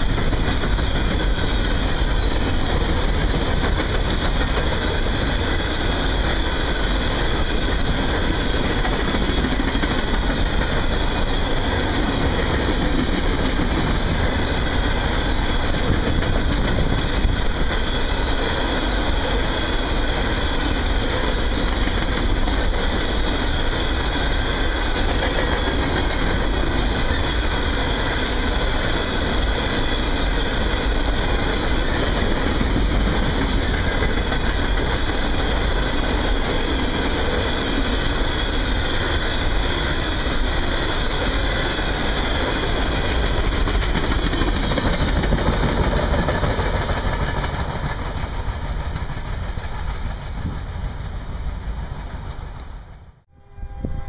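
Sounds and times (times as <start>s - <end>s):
train wheels rolling on rails: 0.0s - 53.3s.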